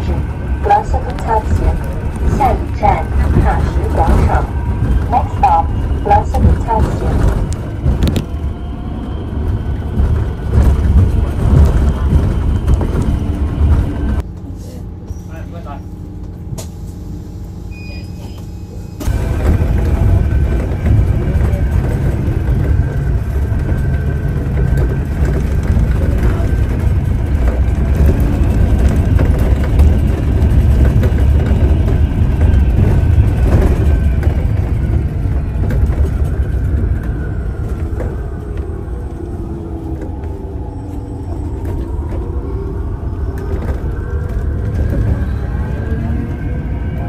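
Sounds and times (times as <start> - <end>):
drivetrain whine: 0.0 - 14.4, 15.0 - 47.0
bus engine and road rumble: 0.0 - 47.0.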